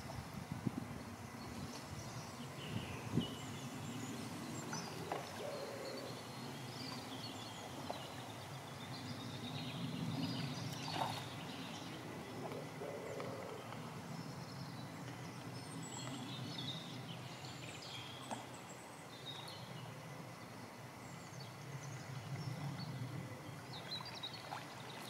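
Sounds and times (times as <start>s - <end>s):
low wind rumble: 0.0s - 18.2s, 18.8s - 25.0s.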